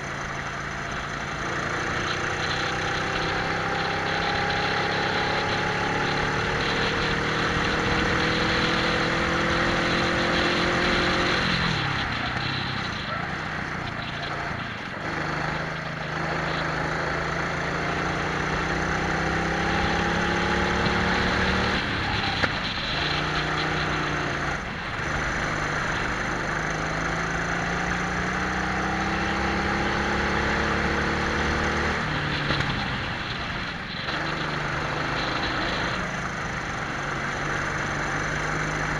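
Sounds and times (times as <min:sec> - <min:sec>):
kart engines revving: 0:00.0 - 0:38.9.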